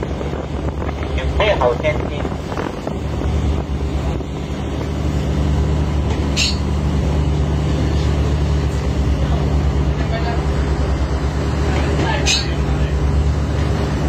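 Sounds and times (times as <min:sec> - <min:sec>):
ship engine pulsing drone: 0:00.0 - 0:14.0.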